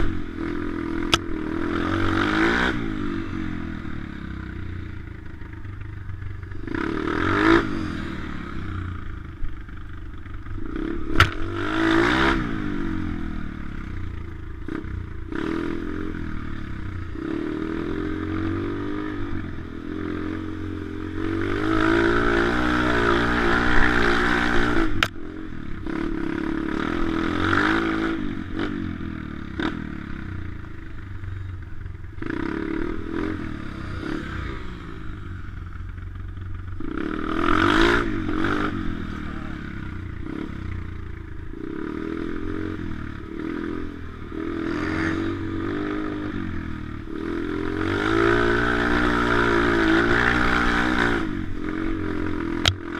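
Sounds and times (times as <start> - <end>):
small motorbike engine revving: 0.0 - 52.9.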